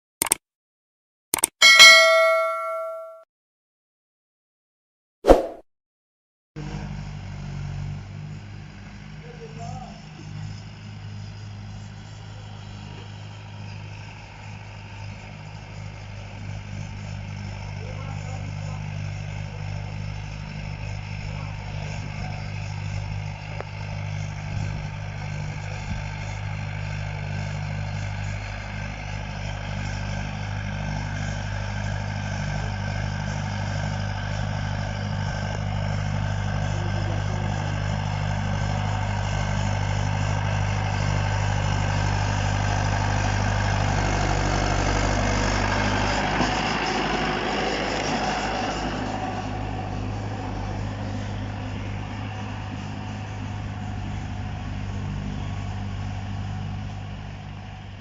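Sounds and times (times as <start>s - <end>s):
tractor diesel engine running: 6.6s - 58.0s.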